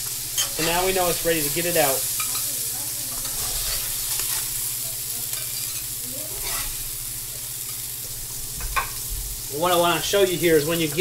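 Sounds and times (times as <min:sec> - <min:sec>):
fish fillets sizzling in a skillet: 0:00.0 - 0:11.0.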